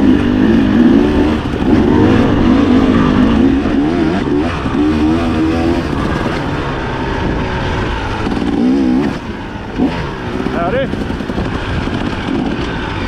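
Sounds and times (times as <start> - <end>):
dirt bike engine revving: 0.0 - 13.0
steady rumble: 0.0 - 13.0.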